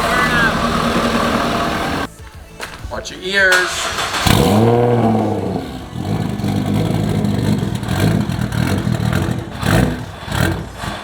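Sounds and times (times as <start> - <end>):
car engine idling roughly: 0.0 - 2.1, 3.5 - 11.0
engine backfire crack: 0.0 - 11.0.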